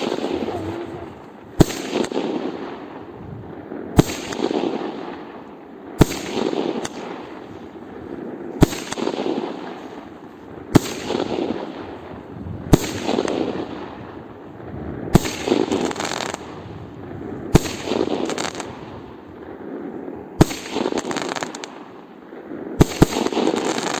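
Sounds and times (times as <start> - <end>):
firework bangs: 0.0 - 5.4, 6.0 - 24.0
crackling firework bursts: 0.0 - 24.0.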